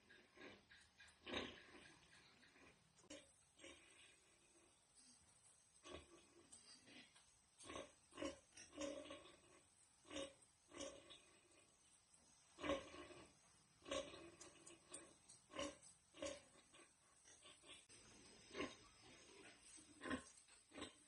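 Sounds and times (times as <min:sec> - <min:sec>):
pigs grunting: 0:00.0 - 0:04.8, 0:05.8 - 0:11.8, 0:12.5 - 0:21.0.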